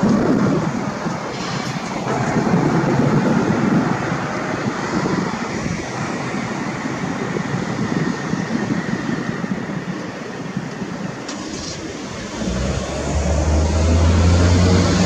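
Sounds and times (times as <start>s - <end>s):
low rumble of vehicle noise: 0.0s - 15.0s.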